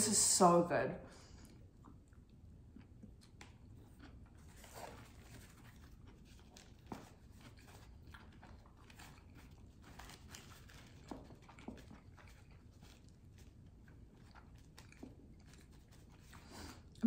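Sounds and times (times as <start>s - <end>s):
person chewing: 1.4s - 17.0s.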